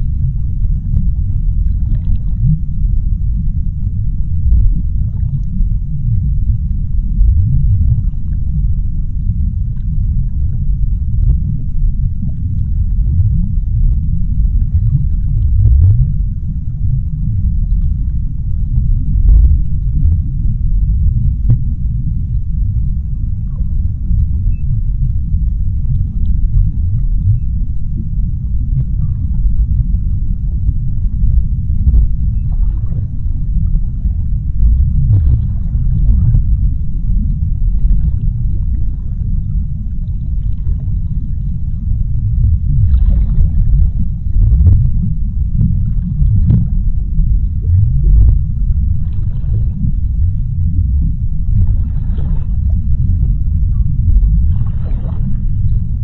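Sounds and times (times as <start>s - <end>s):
deep underwater rumble: 0.0s - 56.0s
faint clicks and crackles: 0.0s - 56.0s.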